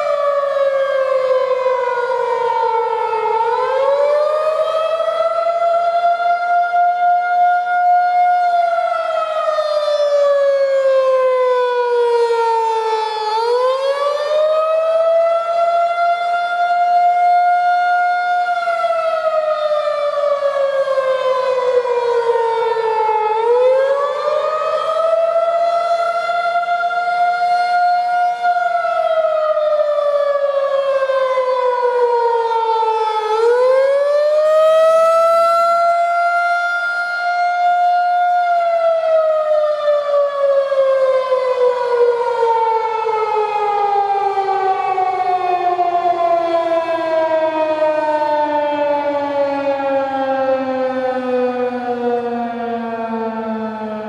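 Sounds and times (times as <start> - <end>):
siren winding down: 0.0 - 54.0
warning siren wailing: 0.0 - 54.0.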